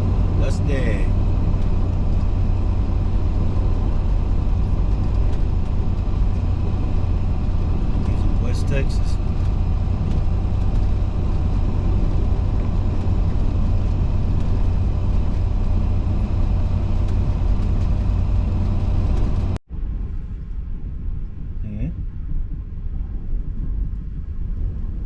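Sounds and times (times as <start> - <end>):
truck rumbling inside cab: 0.0 - 25.0.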